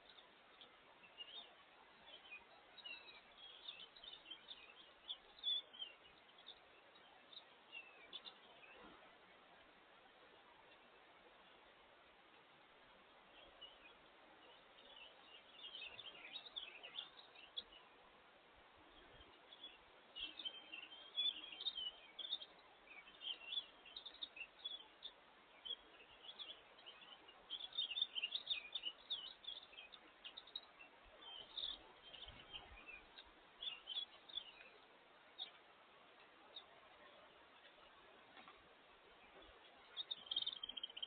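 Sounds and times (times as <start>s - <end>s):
faint background hiss: 0.0s - 41.0s
small birds chirping: 0.0s - 41.0s.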